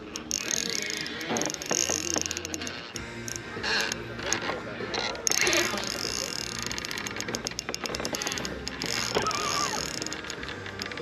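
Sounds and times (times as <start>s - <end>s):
fishing reel gears ticking: 0.0s - 11.0s.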